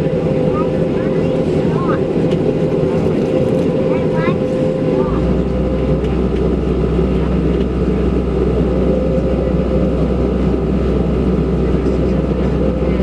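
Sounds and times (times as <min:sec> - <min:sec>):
aircraft engines idling: 0:00.0 - 0:13.0.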